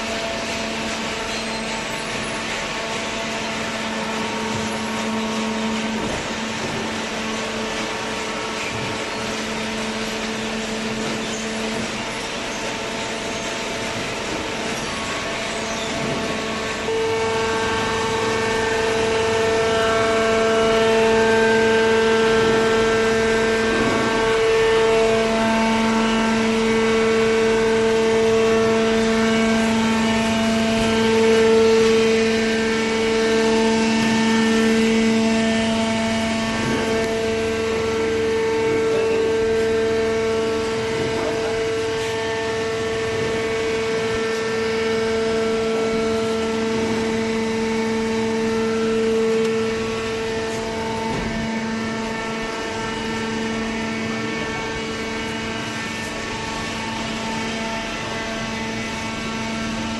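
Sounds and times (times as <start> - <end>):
cardboard baler humming: 0.0 - 59.9.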